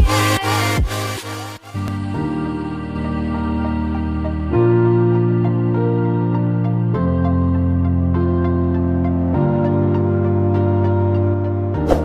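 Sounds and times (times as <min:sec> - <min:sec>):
soft sustained music chords: 0:01.8 - 0:12.0.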